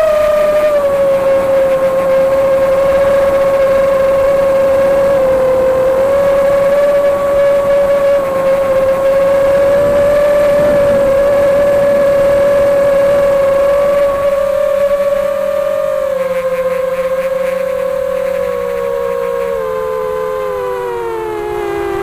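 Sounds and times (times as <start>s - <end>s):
electric motor and propeller whine: 0.0s - 22.0s.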